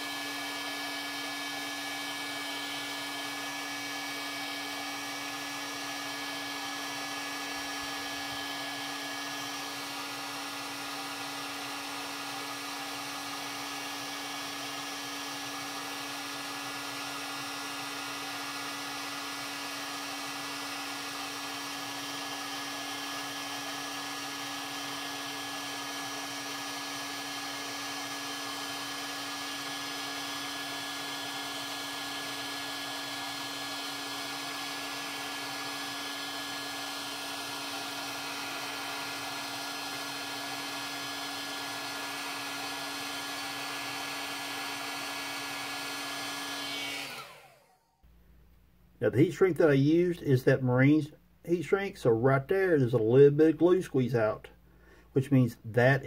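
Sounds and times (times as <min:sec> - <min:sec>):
heat gun fan whine: 0:00.0 - 0:48.0.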